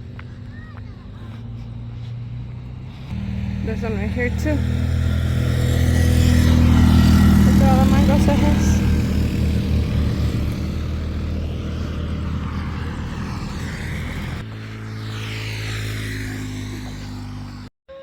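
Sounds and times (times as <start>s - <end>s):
engine passing by: 0.0s - 17.7s.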